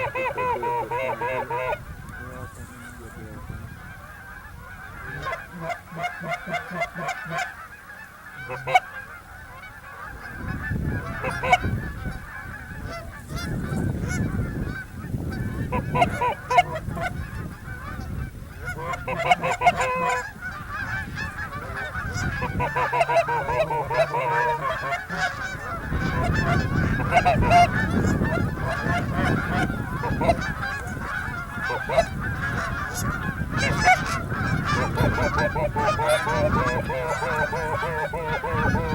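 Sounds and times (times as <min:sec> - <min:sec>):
geese honking: 0:00.0 - 0:38.9.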